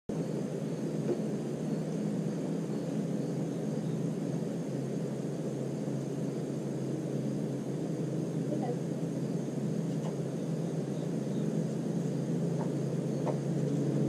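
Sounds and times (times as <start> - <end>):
faint hum: 0.1 - 14.0
low rumble: 0.1 - 14.0.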